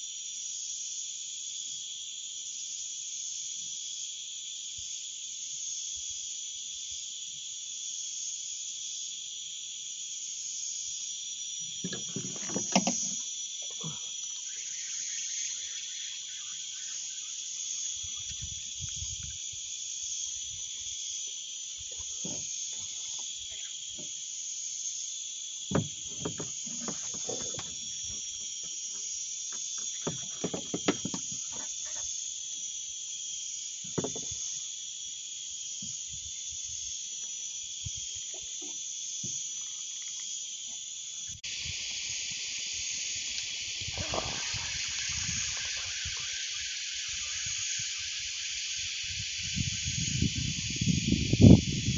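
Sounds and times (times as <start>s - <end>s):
insect chorus: 0.0s - 51.9s.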